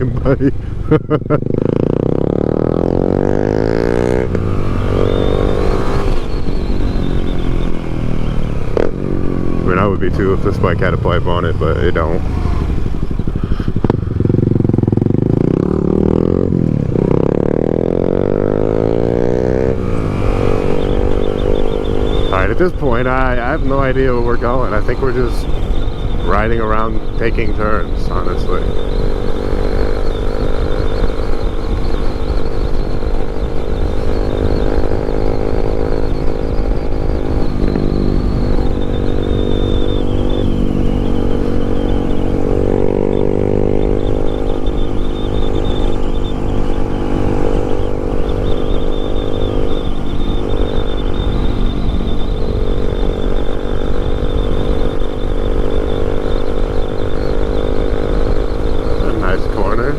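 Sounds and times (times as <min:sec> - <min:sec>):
motorcycle engine running: 0:00.0 - 0:59.9
wind rumble on microphone: 0:04.0 - 0:18.6, 0:19.2 - 0:59.9.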